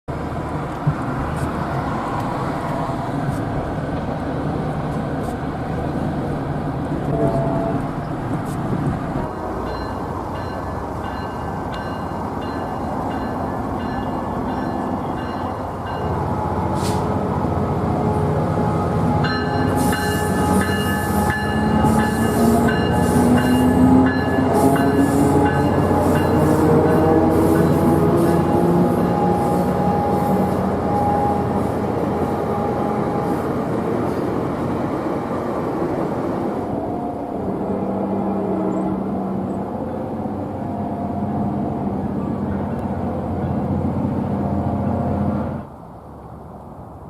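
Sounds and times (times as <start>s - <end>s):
highway traffic rumble: 0.1s - 47.0s.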